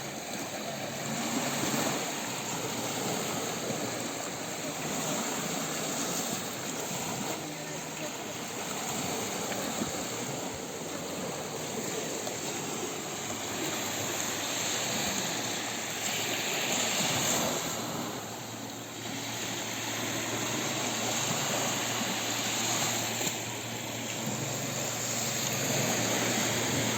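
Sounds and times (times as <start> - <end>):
low engine drone: 0.0 - 26.9
sea waves washing onto beach: 0.0 - 26.9.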